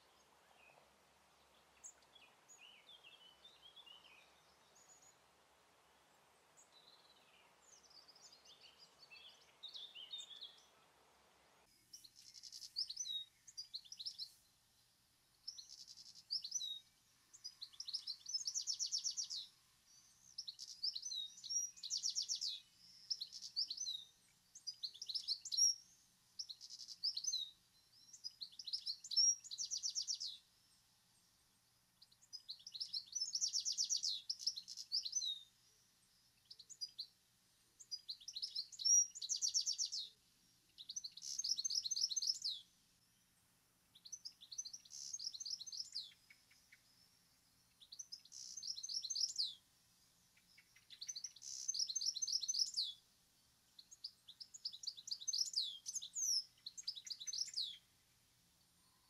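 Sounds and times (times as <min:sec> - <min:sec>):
bird twittering song: 0:00.0 - 0:11.0, 0:11.6 - 0:59.0.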